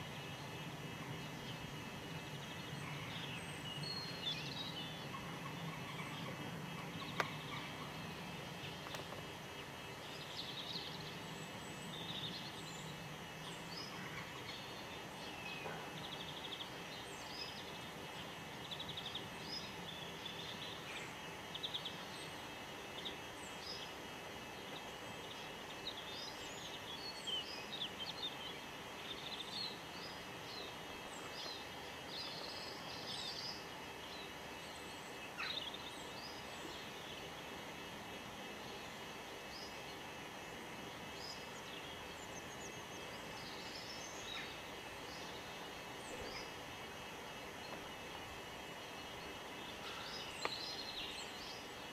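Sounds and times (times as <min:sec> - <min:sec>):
outdoor background noise: 0:00.0 - 0:51.9
small birds chirping: 0:00.0 - 0:51.9.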